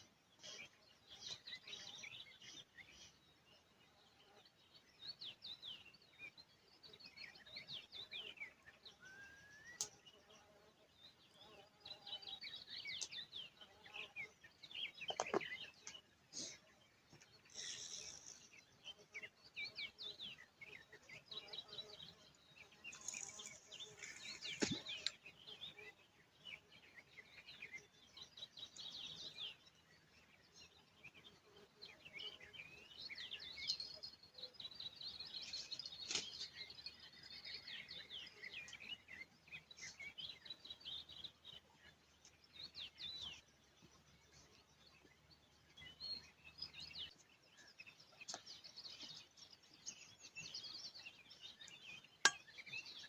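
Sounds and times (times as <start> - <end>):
small birds chirping and singing: 0.0 - 53.0.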